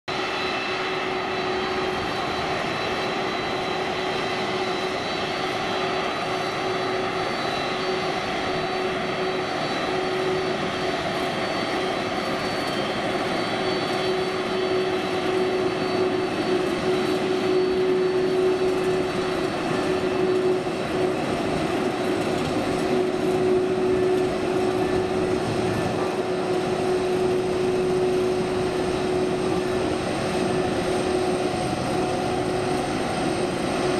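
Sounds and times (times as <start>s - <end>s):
jet engines whining: 0.1s - 33.9s.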